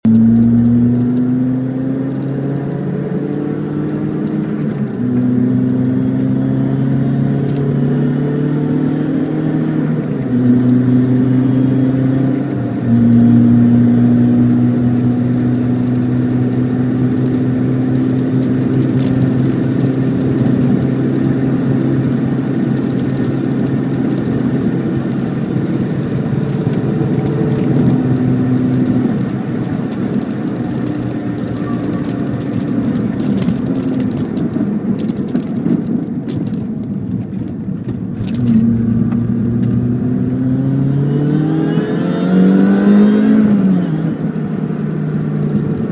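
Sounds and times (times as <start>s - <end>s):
car engine running loudly: 0.0s - 45.9s.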